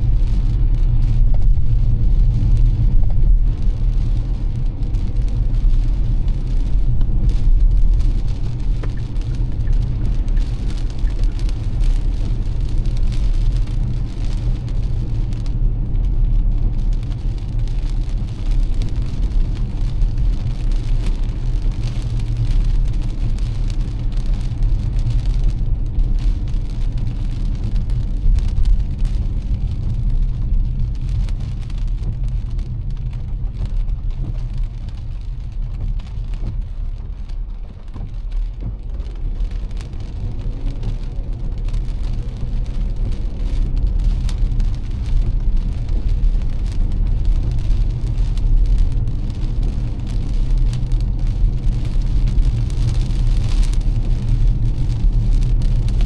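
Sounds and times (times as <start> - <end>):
car and tyres rumbling: 0.0 - 56.0
rain hissing on wet road: 0.0 - 56.0.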